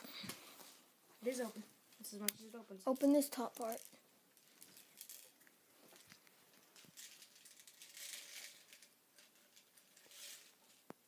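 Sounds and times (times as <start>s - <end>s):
soft plastic rustling: 0.0s - 11.0s.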